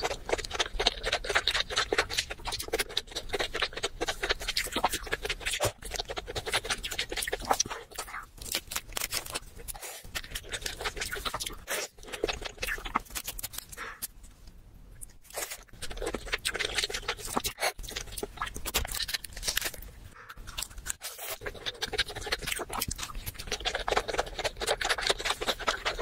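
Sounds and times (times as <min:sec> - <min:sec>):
crab shell cracking and crunching: 0:00.0 - 0:14.2, 0:15.0 - 0:26.0.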